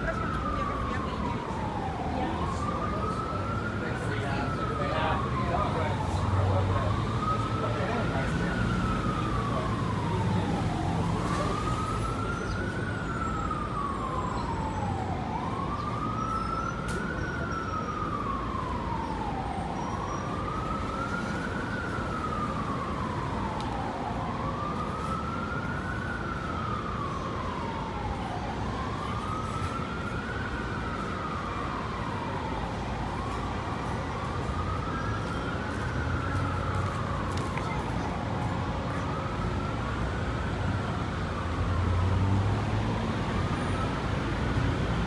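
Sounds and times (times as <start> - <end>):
city traffic noise: 0.0 - 45.0
emergency siren wailing: 0.0 - 45.0.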